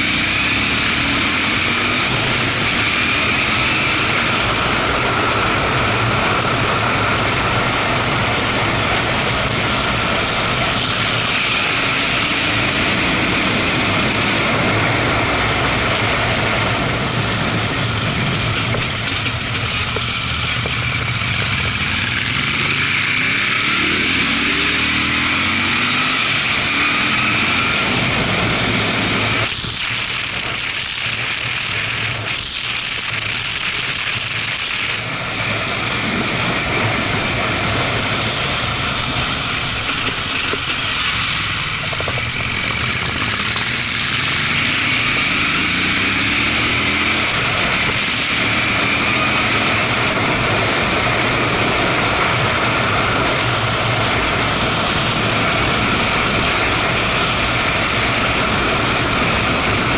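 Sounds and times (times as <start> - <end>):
wind rush on microphone: 0.0 - 23.8, 24.9 - 59.9
motorcycle engine accelerating: 0.0 - 59.9.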